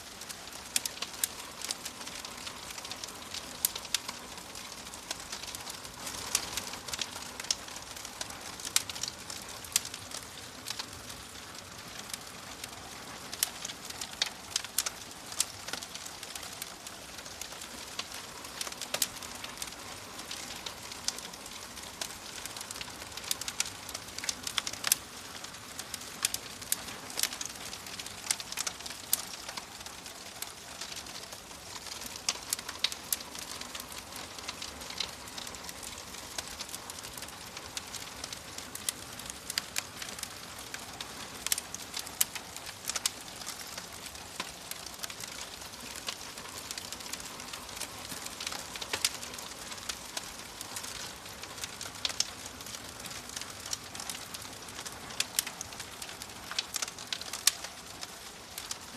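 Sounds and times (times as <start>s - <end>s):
fire crackling: 0.0s - 58.9s.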